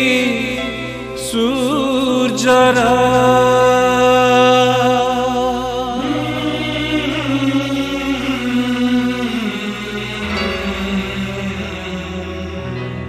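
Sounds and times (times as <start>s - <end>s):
low drone: 0.0s - 13.0s
person singing: 0.0s - 13.0s.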